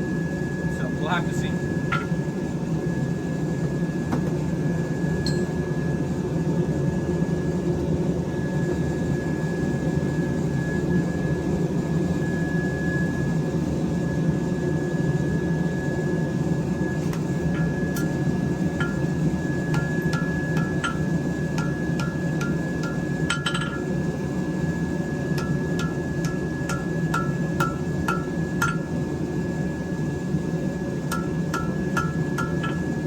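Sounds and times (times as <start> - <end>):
forge low rush with whine: 0.0 - 13.5, 14.3 - 33.0.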